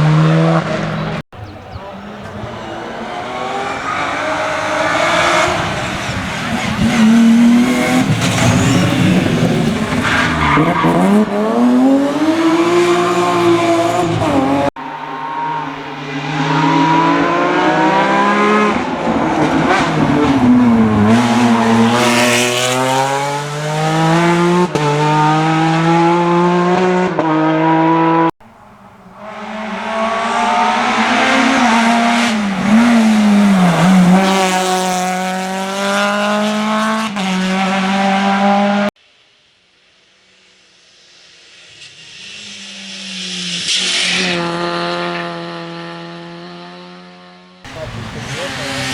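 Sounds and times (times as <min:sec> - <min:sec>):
rally car engines revving: 0:00.0 - 0:39.0, 0:41.6 - 0:48.9.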